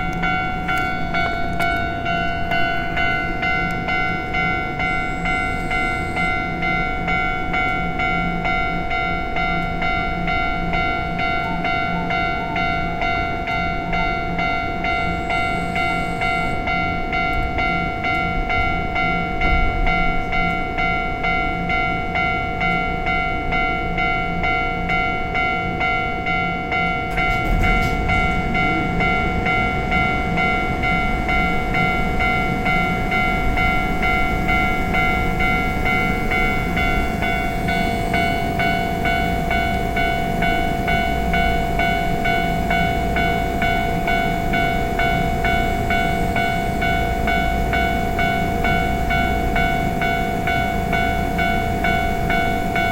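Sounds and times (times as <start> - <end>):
level-crossing alarm ringing: 0.0 - 52.9
train rumble and wheel noise: 0.0 - 52.9.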